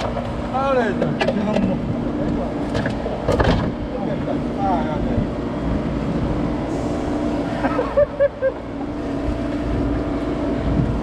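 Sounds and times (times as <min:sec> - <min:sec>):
boat engine running: 0:00.0 - 0:11.0
wind and water noise: 0:00.0 - 0:11.0.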